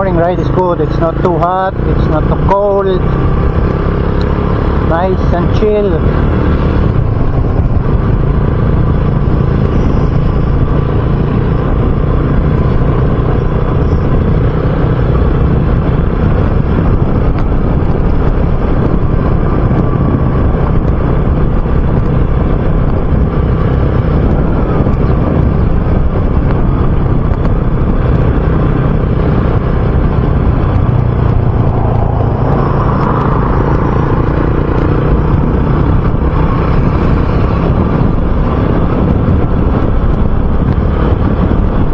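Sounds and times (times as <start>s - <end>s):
motorcycle engine cruising: 0.0s - 41.9s
wind noise on microphone: 0.0s - 41.9s.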